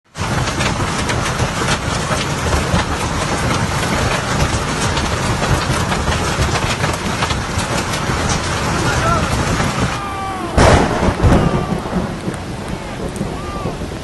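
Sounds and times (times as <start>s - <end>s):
heavy hail clattering: 0.1s - 14.0s
low rumble: 0.2s - 14.0s.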